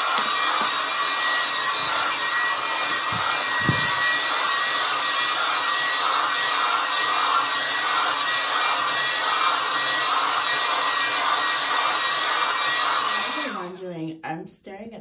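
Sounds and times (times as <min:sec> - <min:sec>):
hair dryer running: 0:00.0 - 0:14.0.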